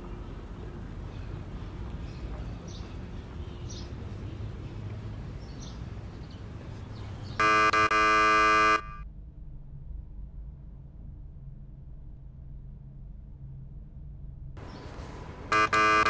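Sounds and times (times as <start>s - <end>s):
quiet street ambience: 0.0s - 16.0s.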